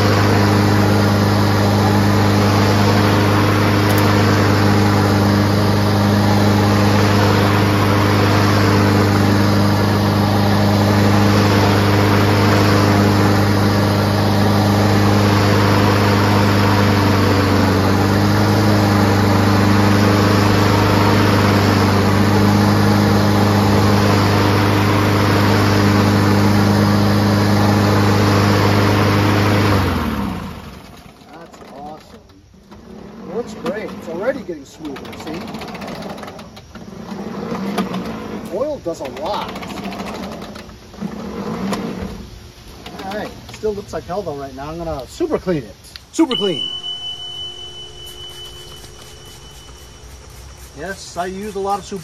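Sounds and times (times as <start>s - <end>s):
engine winding down: 0.0s - 43.8s, 46.2s - 52.0s
mower engine running: 0.0s - 43.8s, 46.1s - 52.0s.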